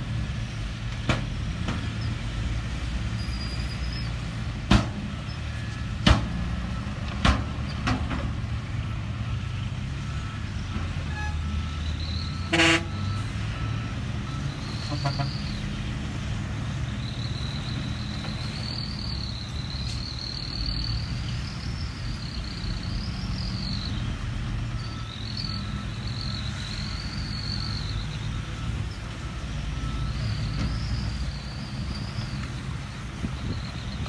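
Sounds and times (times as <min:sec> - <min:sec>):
heavy diesel engines running: 0:00.0 - 0:34.0.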